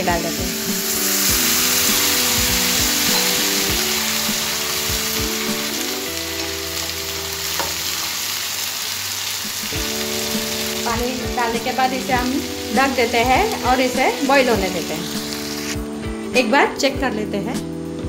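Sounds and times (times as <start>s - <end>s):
water sizzling in hot oil: 0.0s - 15.8s.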